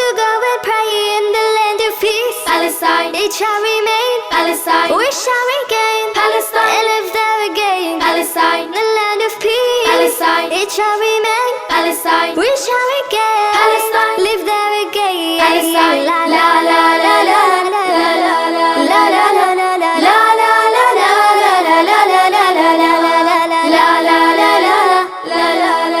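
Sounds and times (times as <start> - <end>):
child singing: 0.0 - 26.0
music: 0.0 - 26.0.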